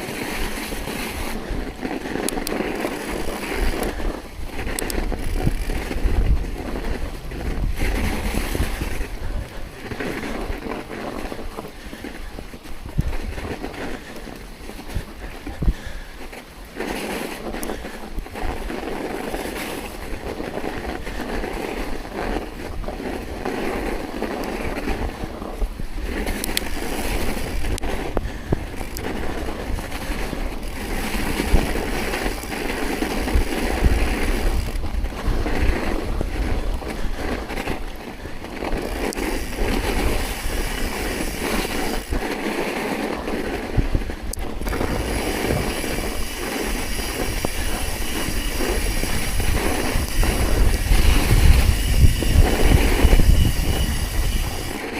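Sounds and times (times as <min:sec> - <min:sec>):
tyres rolling over snow: 0:00.0 - 0:54.9
wind buffeting microphone: 0:00.0 - 0:54.9.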